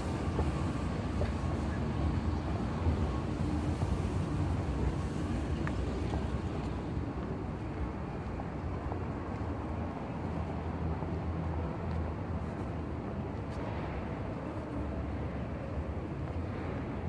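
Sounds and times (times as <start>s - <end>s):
low rumble of city noise: 0.0s - 17.0s.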